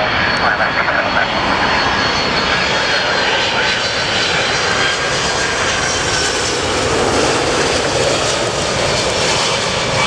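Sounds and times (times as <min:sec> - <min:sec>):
jet engines rushing overhead: 0:00.0 - 0:10.0.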